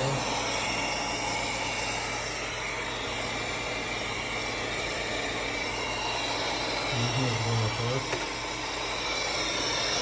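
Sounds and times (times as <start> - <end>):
robot vacuum cleaner whirring: 0.0 - 10.0.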